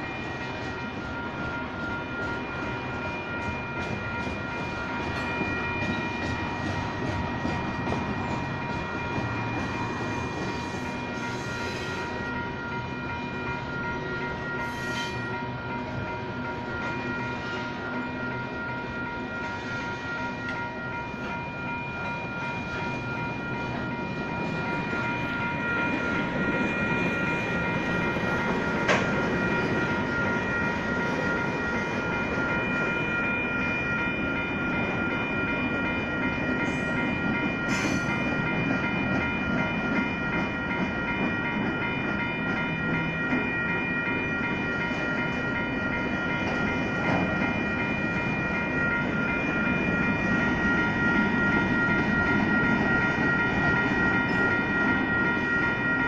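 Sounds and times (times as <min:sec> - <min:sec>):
crossing bells ringing: 0:00.0 - 0:56.0
train wheels clattering on rails: 0:00.0 - 0:56.0.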